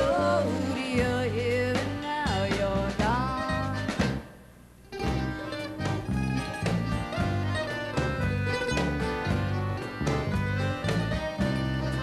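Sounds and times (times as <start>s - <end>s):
folk band playing: 0.0s - 4.3s, 4.9s - 12.0s.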